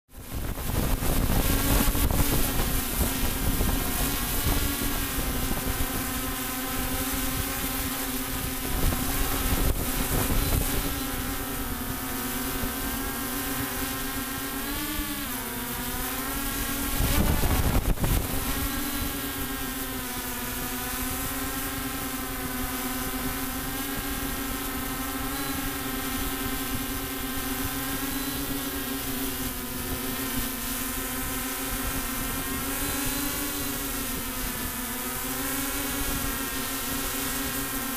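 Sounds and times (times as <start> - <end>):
wind rumble on microphone: 0.1 - 15.3, 16.2 - 34.9
drone propellers whining: 0.2 - 37.9.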